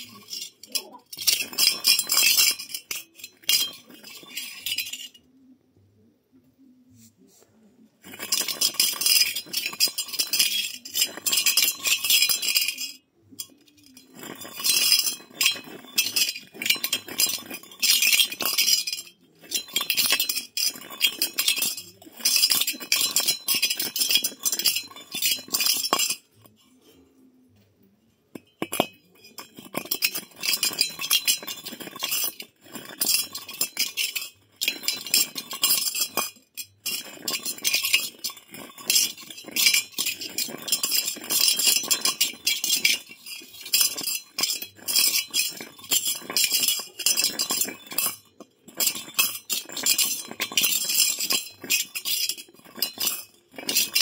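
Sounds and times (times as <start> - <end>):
metal object clinking on concrete: 0.0 - 5.4, 8.0 - 54.0.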